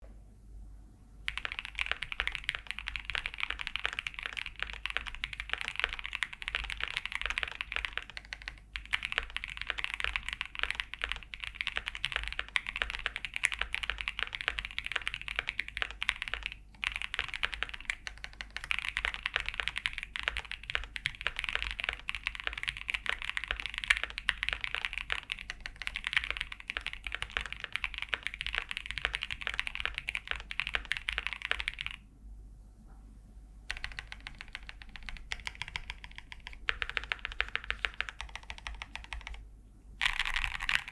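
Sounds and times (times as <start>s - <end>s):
fast typing on mechanical keyboard: 1.3s - 32.0s, 33.7s - 39.4s, 40.0s - 40.9s.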